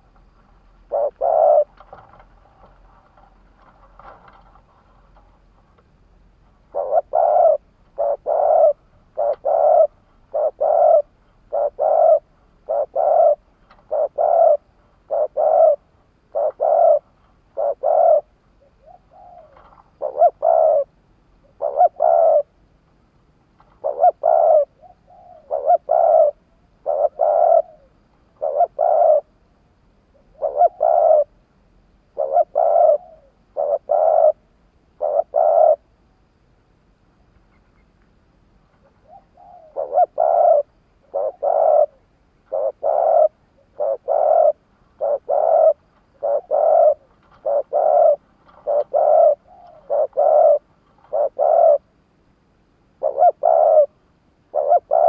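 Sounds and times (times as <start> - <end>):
dove cooing: 0.0 - 5.6, 6.2 - 22.6, 23.6 - 29.4, 30.1 - 31.4, 32.0 - 36.0, 38.7 - 52.0, 53.0 - 55.0.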